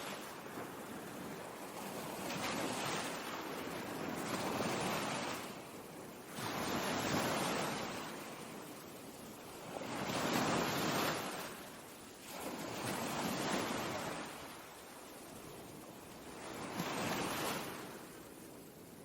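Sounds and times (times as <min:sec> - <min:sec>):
ocean surf waves: 0:00.0 - 0:18.9.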